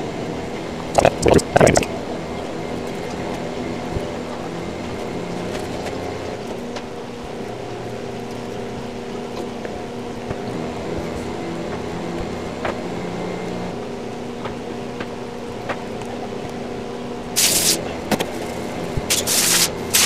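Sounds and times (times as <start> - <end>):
mechanical fan hum: 0.0 - 1.0, 1.8 - 20.0.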